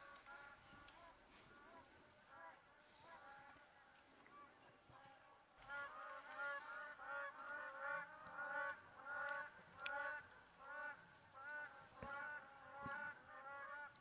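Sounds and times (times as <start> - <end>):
birds honking: 0.0 - 3.7, 5.6 - 14.0.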